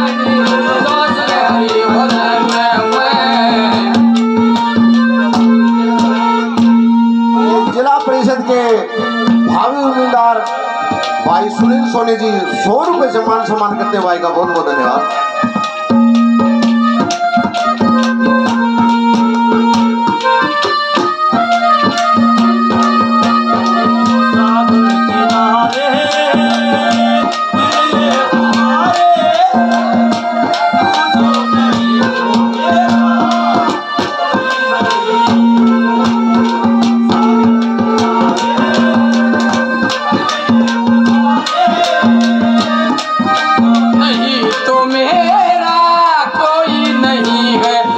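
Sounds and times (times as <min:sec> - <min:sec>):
keyboard melody: 0:00.0 - 0:47.9.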